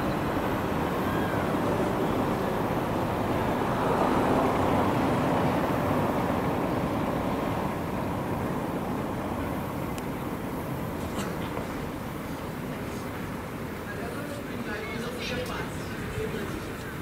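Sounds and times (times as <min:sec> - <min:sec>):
rumble of vehicles: 0:00.0 - 0:17.0.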